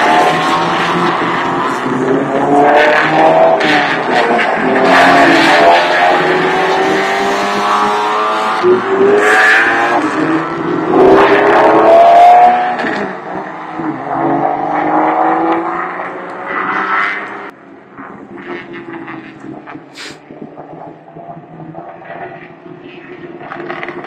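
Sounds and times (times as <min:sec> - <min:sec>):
racing car engine accelerating: 0:00.0 - 0:19.7.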